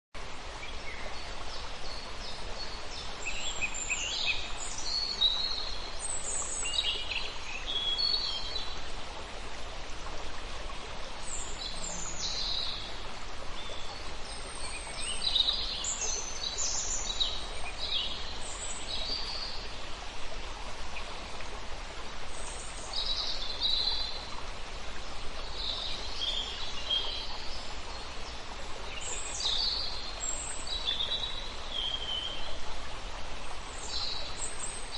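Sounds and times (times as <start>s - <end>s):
running water: 0.2s - 34.9s
songbirds chirping: 0.2s - 34.9s.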